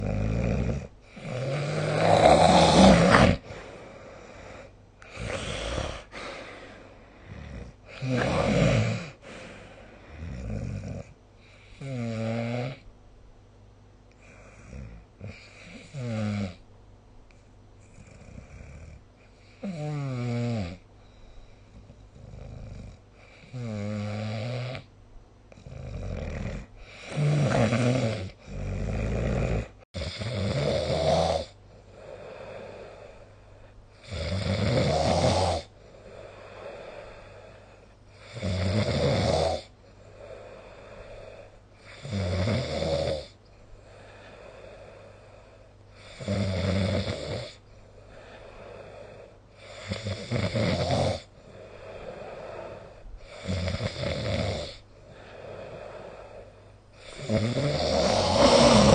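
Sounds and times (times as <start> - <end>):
quiet breathing: 0.0 - 12.1, 13.8 - 23.8, 31.4 - 38.8, 39.6 - 46.4, 47.1 - 58.9
person snoring: 0.0 - 12.8, 14.2 - 16.6, 17.9 - 20.8, 21.7 - 24.9, 25.5 - 58.9.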